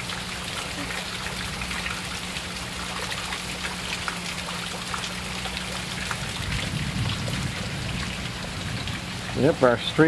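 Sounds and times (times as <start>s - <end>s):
running water: 0.0s - 10.0s
water dripping: 0.0s - 10.0s.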